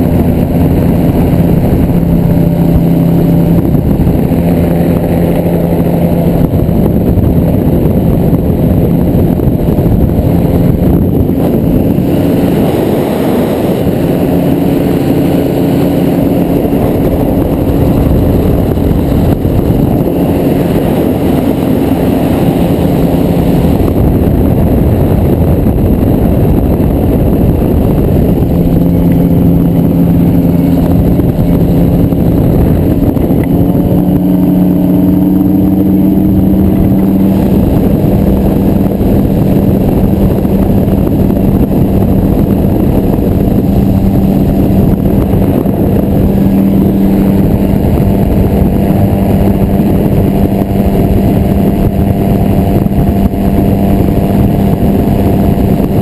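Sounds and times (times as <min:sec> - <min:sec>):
aircraft engine and propeller: 0:00.0 - 0:56.0
wind noise on microphone: 0:00.0 - 0:56.0.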